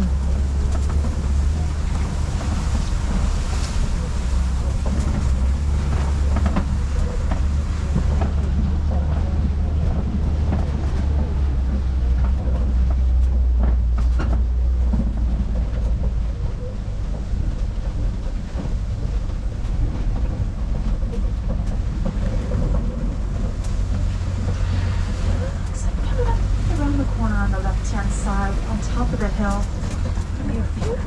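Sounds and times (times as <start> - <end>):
truck engine and road rumble: 0.0 - 31.0
vehicle knocks and rattles: 0.0 - 31.0.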